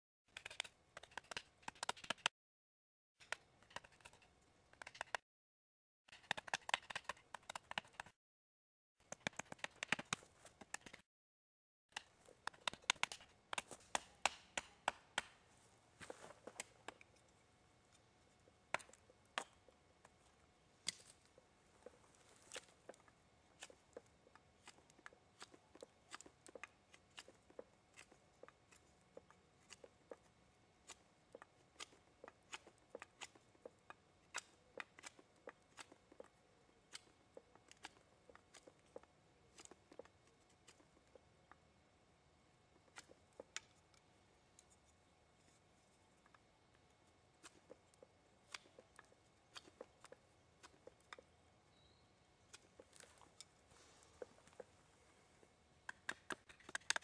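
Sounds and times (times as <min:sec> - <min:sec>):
knife carving wood: 0:00.3 - 0:02.3, 0:03.2 - 0:05.2, 0:06.1 - 0:08.2, 0:09.1 - 0:11.0, 0:12.0 - 0:15.4, 0:16.0 - 0:41.3, 0:42.8 - 0:46.4, 0:47.0 - 0:51.4, 0:52.0 - 0:55.0, 0:55.8 - 0:57.0.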